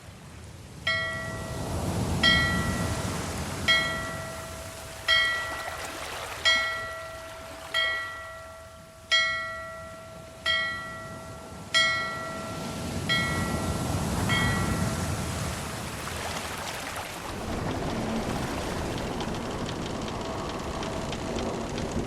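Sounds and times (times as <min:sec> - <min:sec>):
low rumble of sea: 0:00.0 - 0:22.0.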